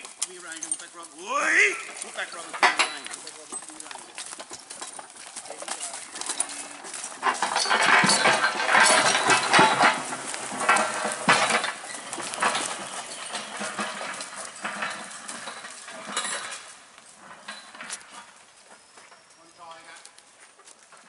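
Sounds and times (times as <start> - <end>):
chain clinking and rattling: 0.0 - 1.2, 1.8 - 21.0
hooves trampling: 0.0 - 21.0
metal scraping over ground: 0.0 - 21.0.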